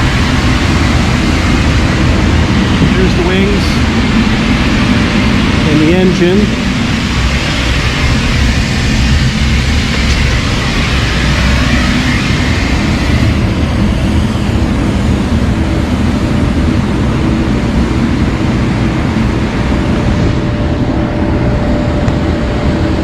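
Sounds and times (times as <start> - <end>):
aircraft low rumble: 0.0 - 23.0
faint steady whining tones: 0.0 - 23.0.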